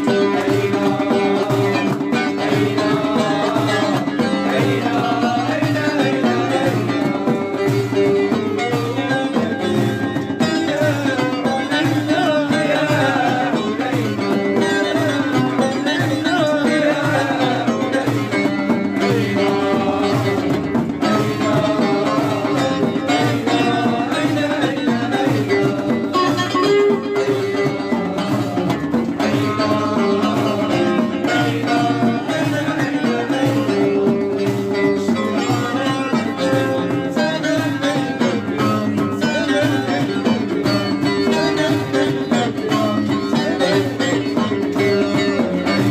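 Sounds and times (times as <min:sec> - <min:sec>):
hand drum beat: 0:00.0 - 0:45.9.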